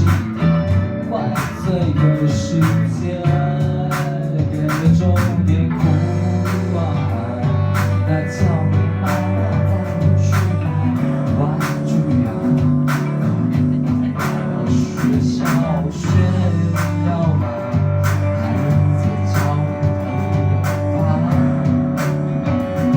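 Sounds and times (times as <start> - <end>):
rock band playing: 0.0 - 22.9.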